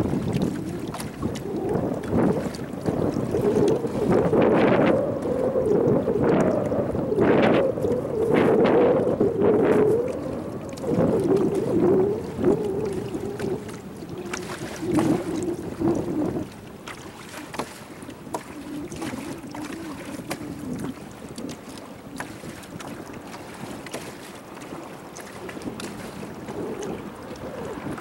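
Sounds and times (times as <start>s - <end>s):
boat motor humming: 0.0s - 28.0s
water splashing against hull: 0.0s - 28.0s
wind buffeting microphone: 0.0s - 28.0s.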